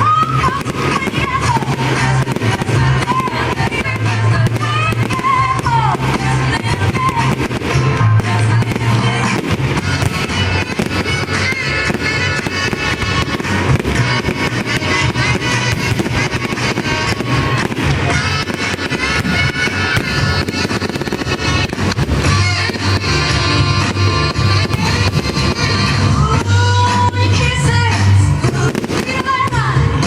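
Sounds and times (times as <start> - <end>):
fireworks bursting and crackling: 0.0 - 30.0
loud music: 0.0 - 30.0.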